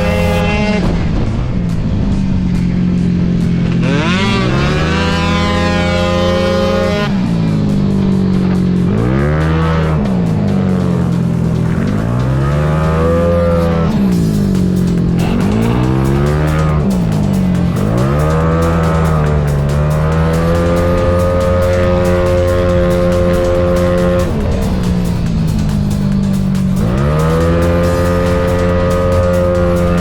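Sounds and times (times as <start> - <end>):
racing scooter engine revving: 0.0 - 30.0.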